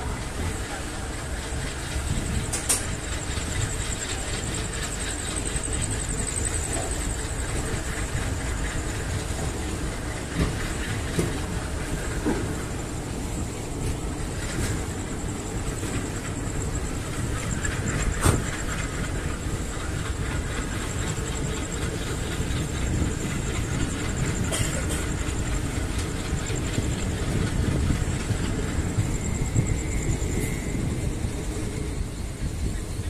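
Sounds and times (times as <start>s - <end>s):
train wheels and carriage rumbling: 0.0s - 33.0s
faint clicking from rails: 0.1s - 30.6s.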